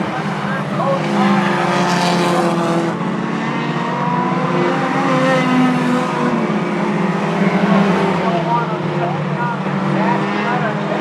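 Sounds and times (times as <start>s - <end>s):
race car engines at speed: 0.0s - 11.0s.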